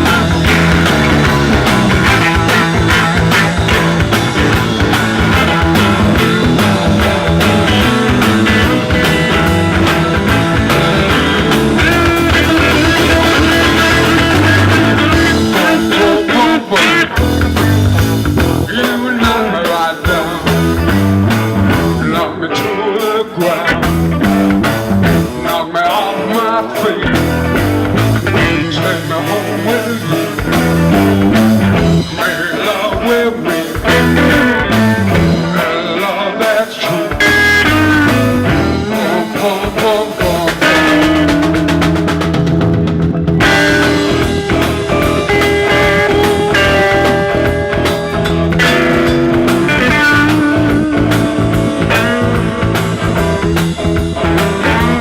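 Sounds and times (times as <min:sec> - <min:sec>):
bass guitar: 0:00.0 - 0:55.0
drums: 0:00.0 - 0:55.0
electric guitar: 0:00.0 - 0:55.0.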